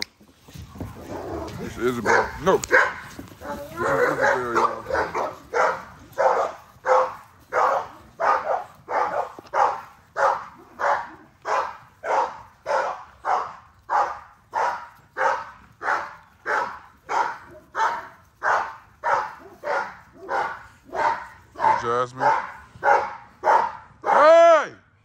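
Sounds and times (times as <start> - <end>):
dog barking: 1.2 - 24.3.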